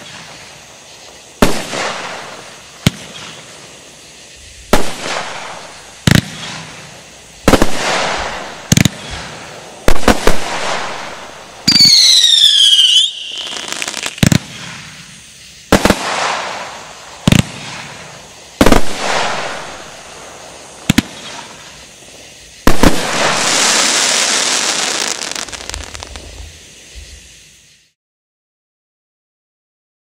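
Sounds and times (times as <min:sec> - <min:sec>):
fireworks bangs: 0:00.0 - 0:27.2
fireworks hiss: 0:00.0 - 0:28.0.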